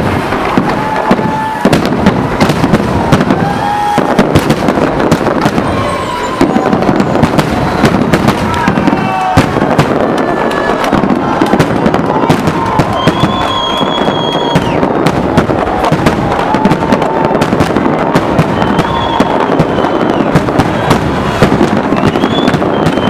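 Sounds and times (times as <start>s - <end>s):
fireworks crackling bangs: 0.0s - 23.0s
fireworks whistling: 0.0s - 23.0s.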